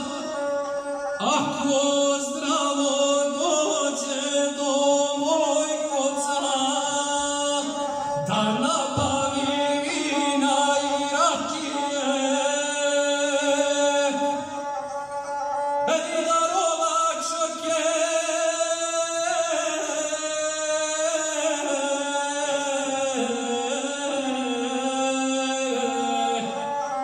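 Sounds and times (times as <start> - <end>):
man chanting a sung poem: 1.2 - 14.5, 15.9 - 26.7.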